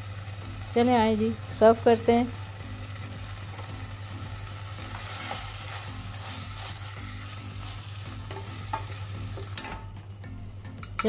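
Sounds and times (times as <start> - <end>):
food sizzling in a metal pan: 0.0 - 9.8.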